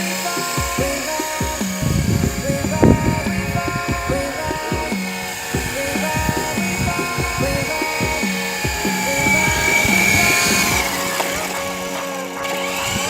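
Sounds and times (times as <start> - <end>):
background music with beat: 0.0 - 13.0
rc helicopter motor whine: 0.0 - 13.0.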